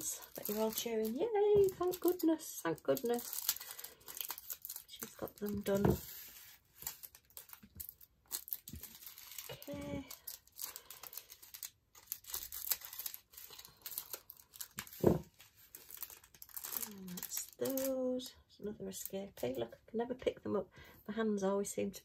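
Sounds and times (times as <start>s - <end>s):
plastic bags crinkling: 0.0s - 18.3s.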